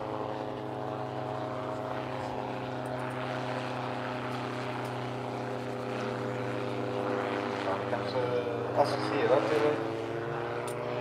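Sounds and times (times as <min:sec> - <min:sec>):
gyrocopter engine and propeller: 0:00.0 - 0:11.0.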